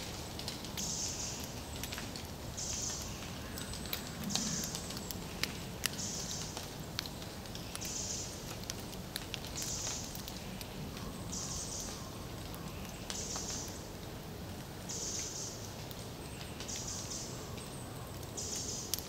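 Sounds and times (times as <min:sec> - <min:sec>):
low forest hum: 0:00.0 - 0:19.0.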